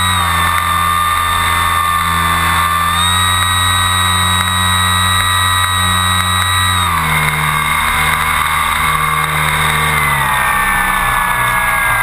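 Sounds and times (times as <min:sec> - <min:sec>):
model airplane motor whine: 0:00.0 - 0:12.0.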